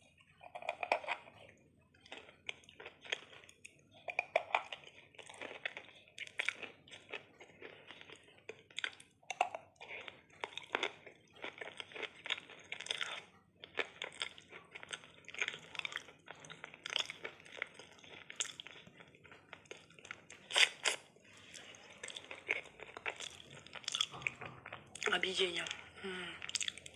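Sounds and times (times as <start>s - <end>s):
crunchy chewing: 0.1s - 25.1s, 26.4s - 26.9s.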